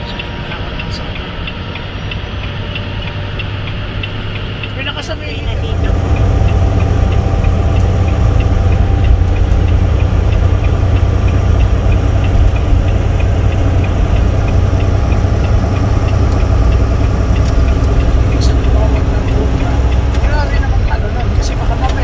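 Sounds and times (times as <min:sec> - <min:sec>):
truck engine and road drone: 0:00.0 - 0:22.0
light repeating tick: 0:00.1 - 0:22.0.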